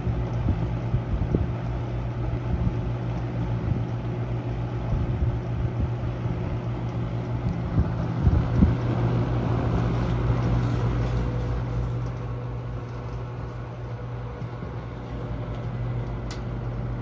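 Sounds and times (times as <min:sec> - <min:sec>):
box fan motor hum: 0:00.0 - 0:17.0
rush of air from fan: 0:00.0 - 0:17.0.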